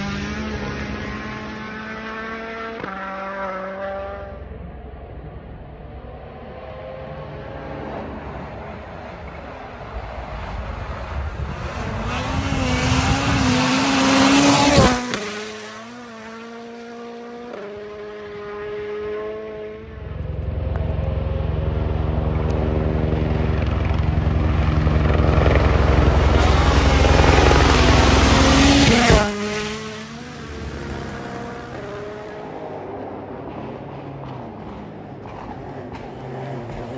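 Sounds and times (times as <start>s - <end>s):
rally cars passing at speed: 0.0s - 36.9s.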